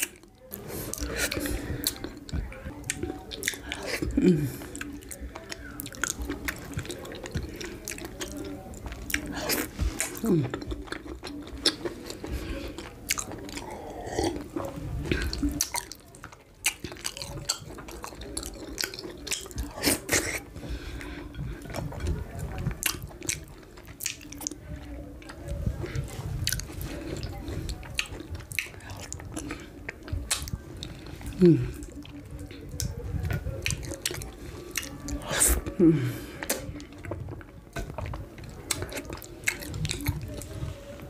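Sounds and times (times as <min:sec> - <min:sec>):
chewing and wet mouth sounds: 0:00.0 - 0:41.0.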